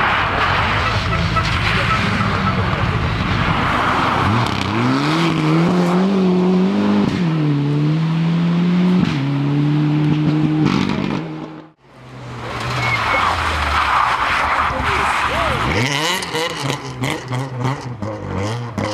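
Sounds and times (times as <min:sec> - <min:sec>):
rally car engine accelerating: 0:00.0 - 0:18.9.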